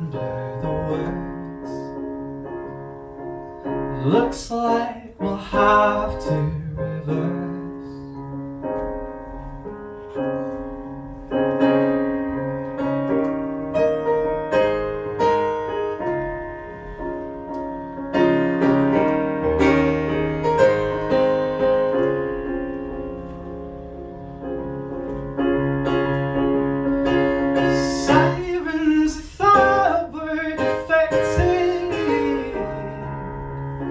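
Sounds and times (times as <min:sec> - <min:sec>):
piano chords: 0:00.0 - 0:33.9.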